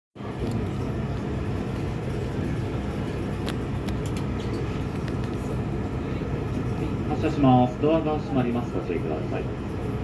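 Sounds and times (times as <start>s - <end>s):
diesel railcar engine idling: 0.2s - 10.0s.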